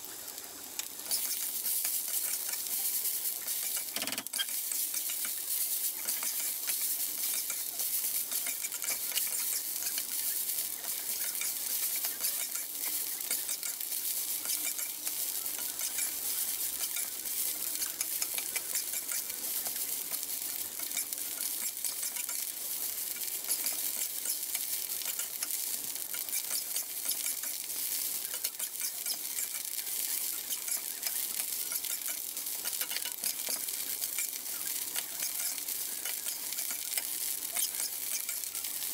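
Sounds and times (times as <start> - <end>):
rice sizzling in a wok: 0.0 - 38.9
metal spatula scraping a wok: 1.1 - 38.9.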